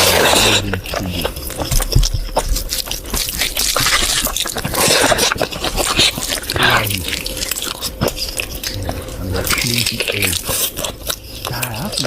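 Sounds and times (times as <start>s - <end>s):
wet chewing and smacking: 0.0s - 12.0s.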